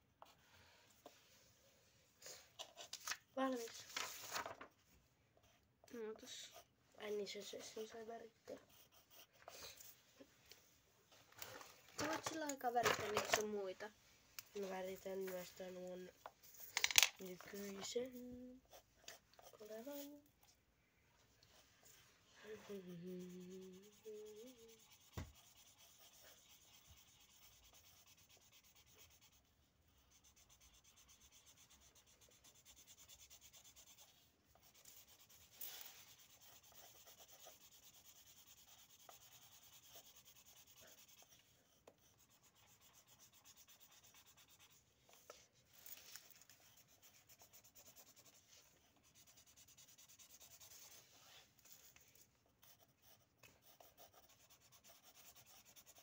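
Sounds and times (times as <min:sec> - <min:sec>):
pencils scratching on paper: 0:02.3 - 0:04.8, 0:05.4 - 0:10.0, 0:11.4 - 0:20.6, 0:21.4 - 0:56.0.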